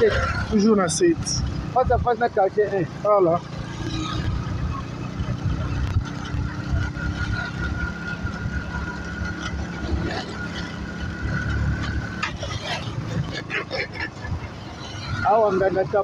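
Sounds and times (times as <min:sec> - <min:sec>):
motorcycle engine rumble: 0:00.0 - 0:16.0.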